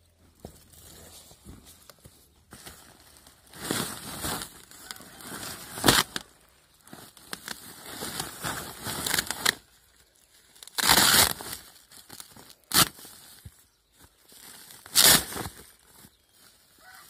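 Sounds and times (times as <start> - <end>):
plastic sack rustling: 0.3 - 17.0.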